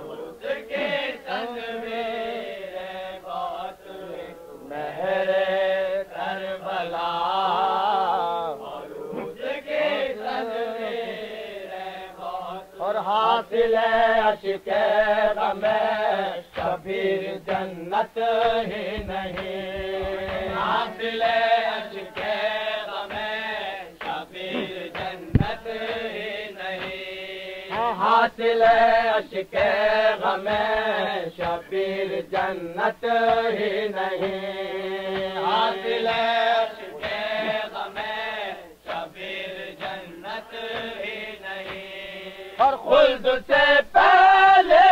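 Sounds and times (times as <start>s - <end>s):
men chanting: 0.0s - 44.9s.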